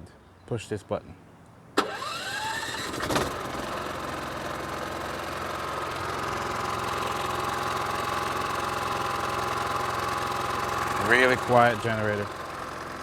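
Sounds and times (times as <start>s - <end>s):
generator engine starting and running: 1.8s - 13.0s.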